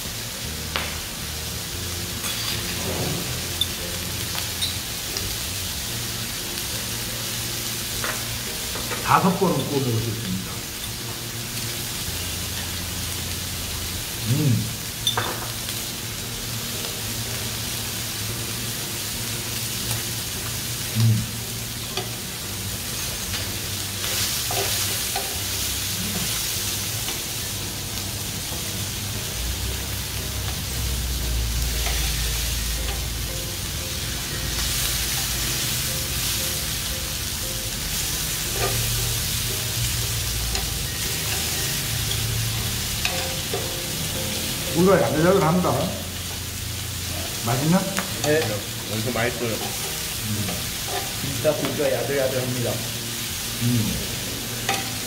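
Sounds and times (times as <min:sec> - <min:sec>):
meat sizzling on grill pan: 0:00.0 - 0:55.0.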